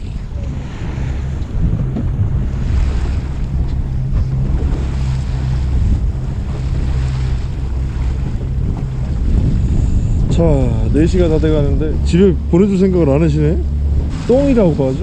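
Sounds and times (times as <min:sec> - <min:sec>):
boat engine drone: 0:00.0 - 0:15.0
water washing along hull: 0:00.0 - 0:15.0
wind buffeting microphone: 0:00.0 - 0:15.0.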